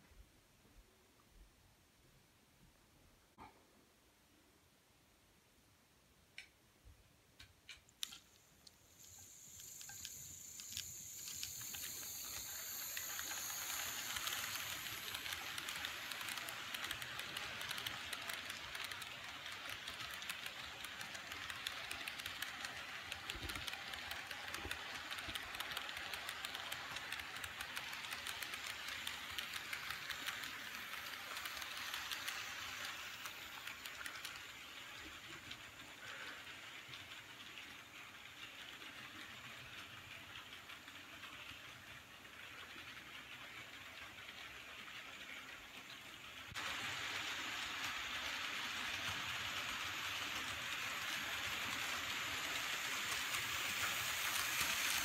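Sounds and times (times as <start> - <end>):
wheels clicking over rails: 7.7 - 55.0
model train running on track: 8.0 - 55.0.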